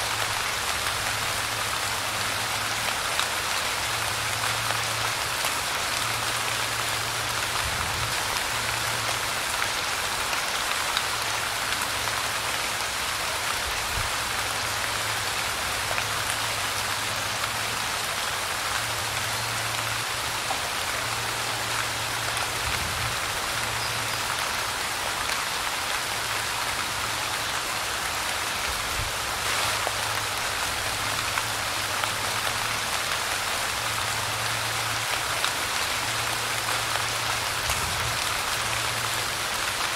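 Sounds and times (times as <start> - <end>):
light rain pattering: 0.0 - 39.9.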